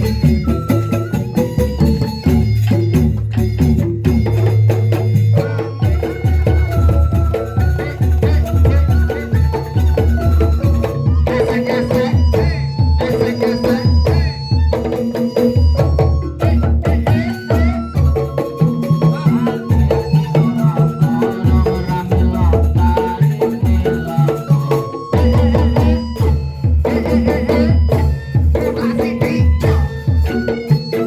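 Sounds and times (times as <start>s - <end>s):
hand drums beating: 0.0s - 31.0s.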